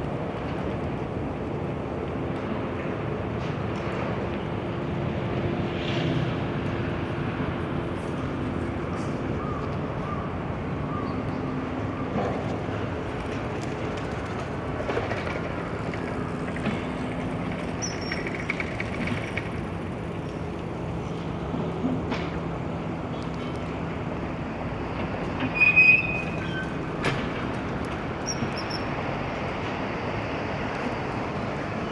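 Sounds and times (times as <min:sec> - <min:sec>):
rumble of distant vehicles: 0:00.0 - 0:31.9.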